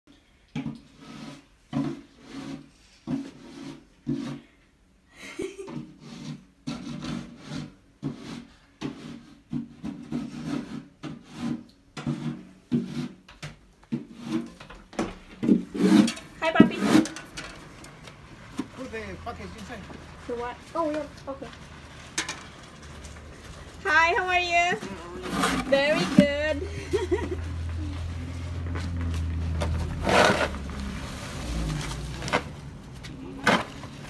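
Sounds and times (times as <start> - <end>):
snow shovel scraping pavement: 0.9 - 4.5, 6.0 - 13.3, 13.9 - 14.7, 15.4 - 34.0.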